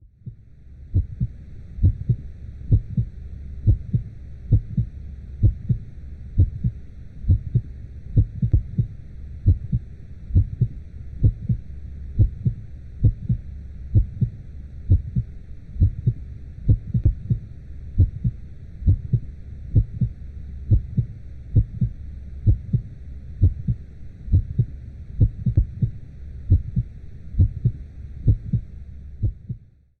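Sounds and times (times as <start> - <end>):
heartbeat: 0.1 - 29.7
low rumble: 0.2 - 29.6.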